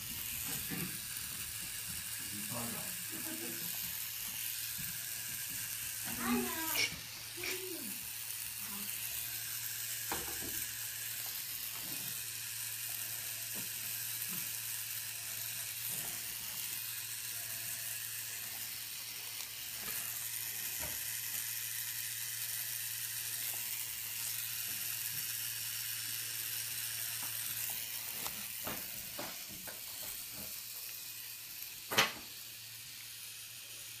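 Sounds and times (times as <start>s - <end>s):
tattoo machine humming: 0.0s - 34.0s.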